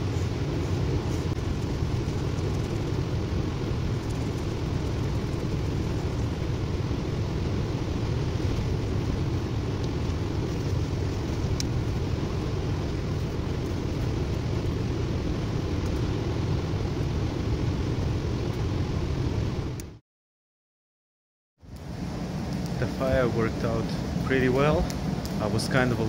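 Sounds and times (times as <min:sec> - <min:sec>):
low rumbling noise: 0:00.0 - 0:20.0, 0:21.6 - 0:26.0.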